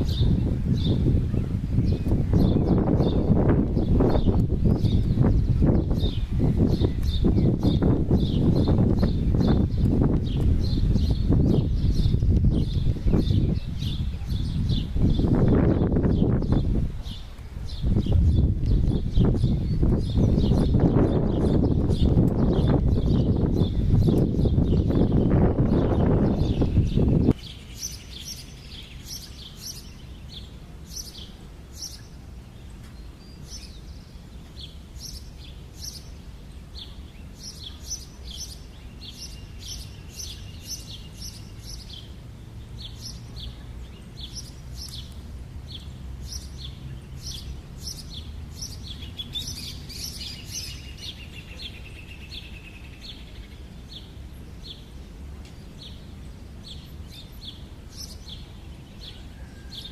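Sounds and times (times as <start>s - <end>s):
small bird chirping: 0.0s - 54.9s.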